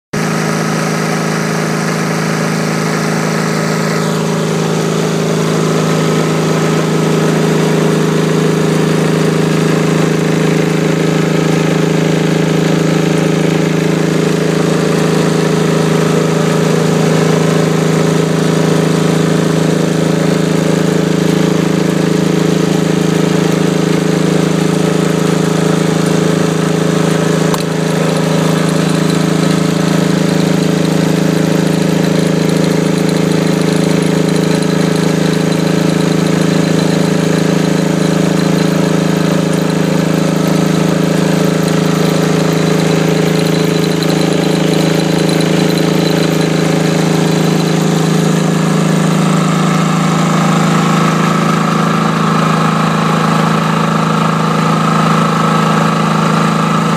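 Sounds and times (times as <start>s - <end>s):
diesel generator running: 0.1s - 56.9s.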